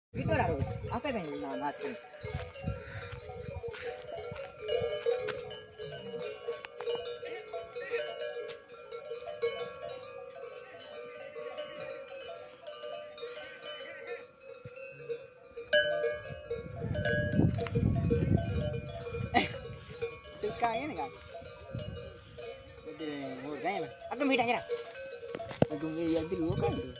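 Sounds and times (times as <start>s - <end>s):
camel bells clanking: 0.2s - 26.9s.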